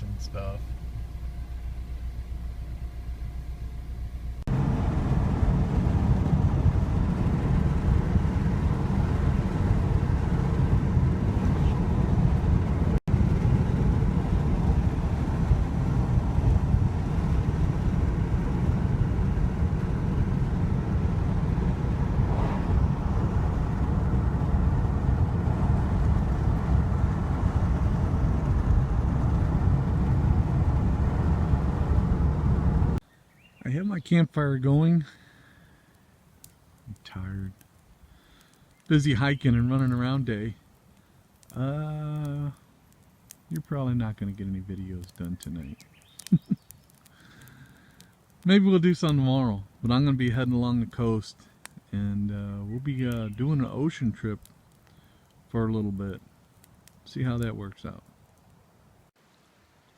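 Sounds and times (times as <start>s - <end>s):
road and engine rumble: 0.0s - 59.8s.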